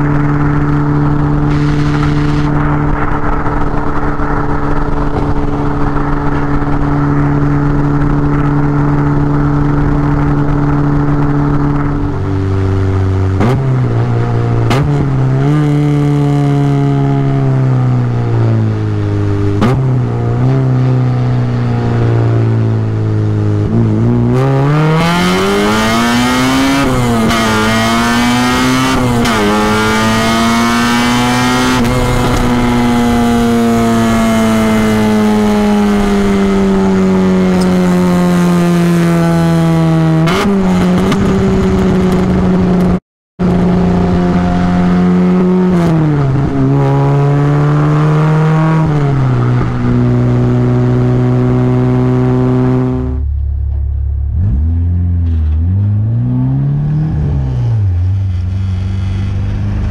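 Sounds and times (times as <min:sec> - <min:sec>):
car engine revving in tunnel: 0:00.0 - 0:59.9.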